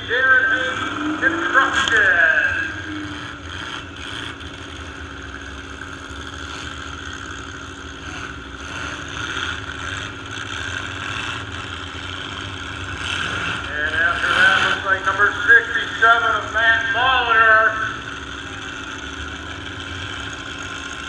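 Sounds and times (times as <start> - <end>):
truck engines idling: 0.0 - 21.0.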